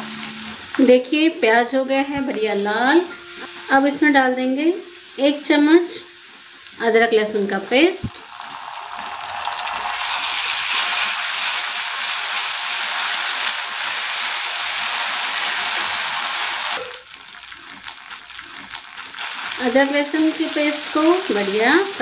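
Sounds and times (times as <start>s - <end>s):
paste and onions sizzling in oil: 0.0s - 22.0s.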